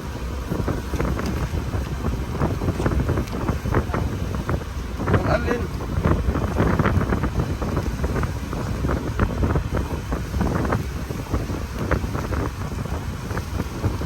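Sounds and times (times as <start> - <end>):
boat engine rumble: 0.0 - 14.0
wind buffeting microphone: 0.0 - 14.0.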